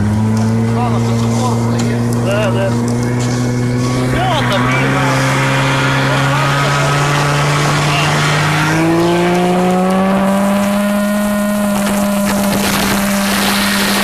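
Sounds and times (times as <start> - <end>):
two-stroke engine running: 0.0 - 14.0.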